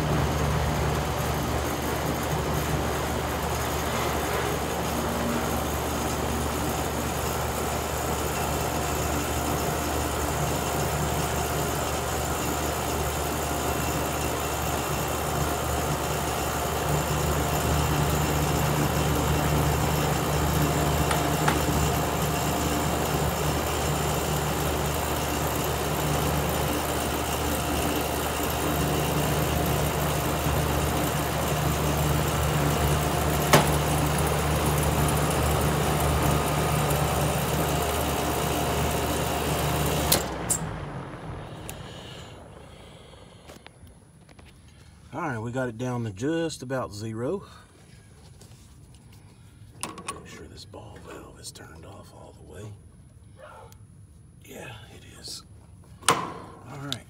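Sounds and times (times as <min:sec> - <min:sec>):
air conditioner unit humming: 0:00.0 - 0:57.0.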